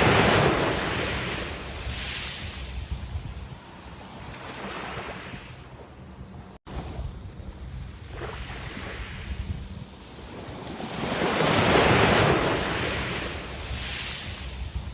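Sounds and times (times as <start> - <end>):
sea waves breaking: 0.0 - 14.9
wind rumble on microphone: 0.0 - 14.9.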